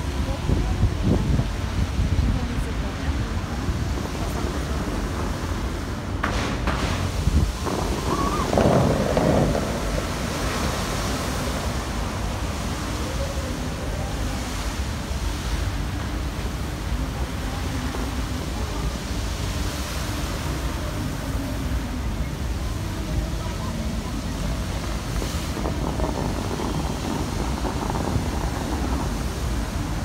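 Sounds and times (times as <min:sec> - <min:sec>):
fountain water splashing: 0:00.0 - 0:30.0.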